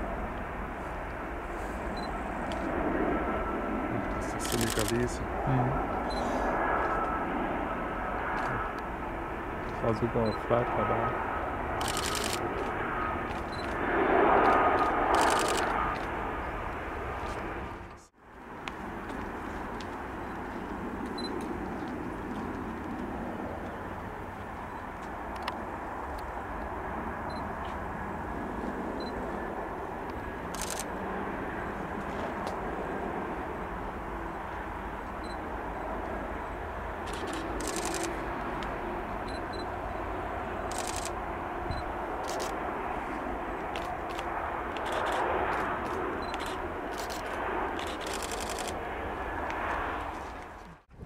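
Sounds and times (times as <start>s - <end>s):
jet engines rushing rumble: 0.0s - 51.0s.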